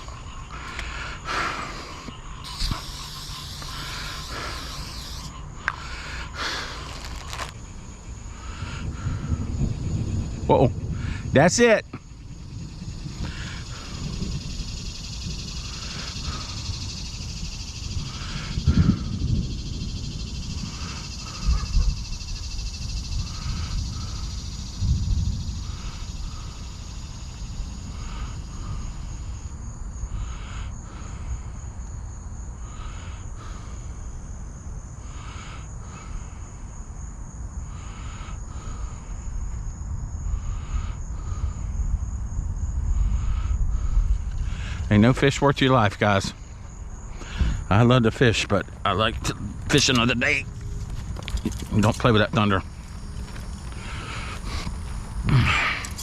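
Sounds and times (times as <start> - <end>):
crickets buzzing: 0.0 - 56.0.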